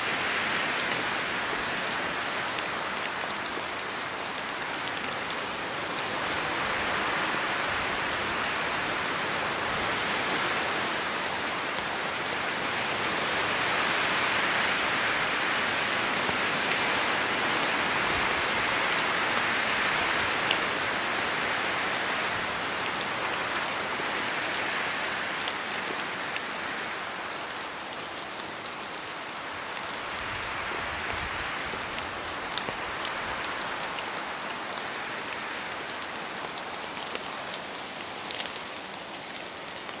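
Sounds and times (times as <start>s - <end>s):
rain falling in forest: 0.0s - 40.0s.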